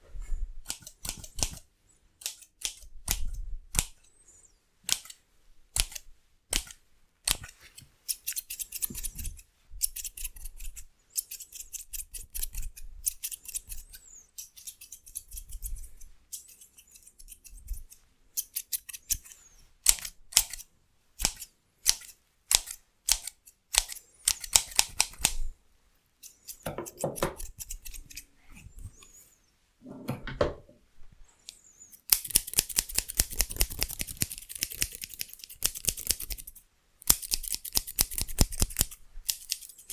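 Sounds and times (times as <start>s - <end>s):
scissors snipping hair: 0.6s - 1.6s, 2.2s - 4.0s, 5.8s - 7.5s, 8.1s - 25.4s, 26.2s - 28.3s, 31.5s - 39.9s.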